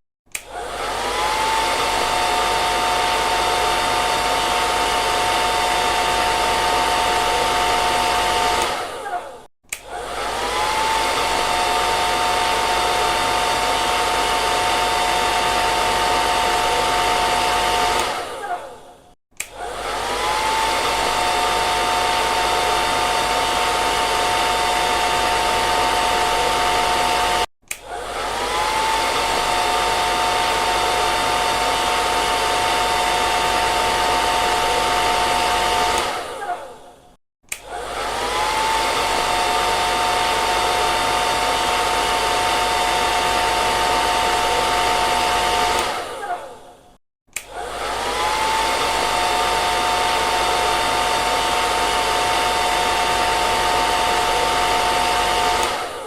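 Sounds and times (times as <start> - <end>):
hair dryer whining: 0.3 - 56.0.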